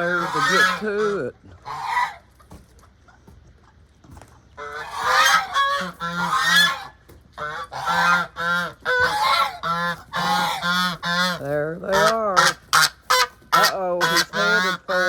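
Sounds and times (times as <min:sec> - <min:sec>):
geese honking loudly: 0:00.0 - 0:02.3, 0:04.6 - 0:15.0.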